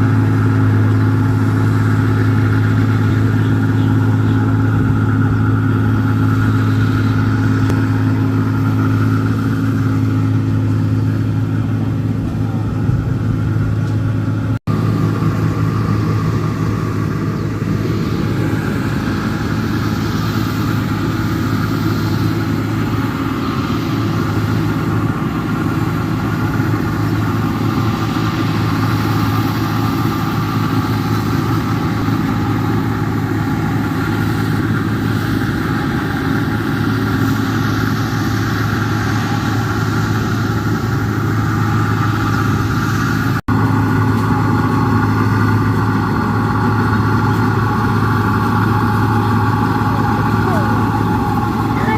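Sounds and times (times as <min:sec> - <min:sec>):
diesel engine low hum: 0:00.0 - 0:51.9.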